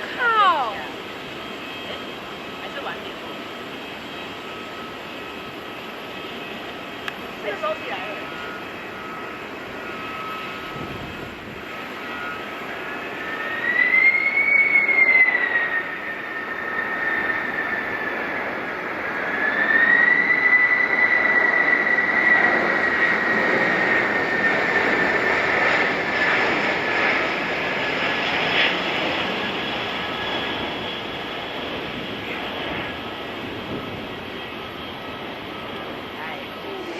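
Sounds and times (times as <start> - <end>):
jet engine whine: 0.0 - 36.9
jet roar: 0.0 - 36.9.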